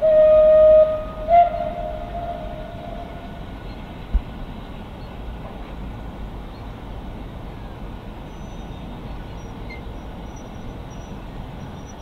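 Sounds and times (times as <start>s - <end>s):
distant steam locomotive rumble: 0.0s - 12.0s.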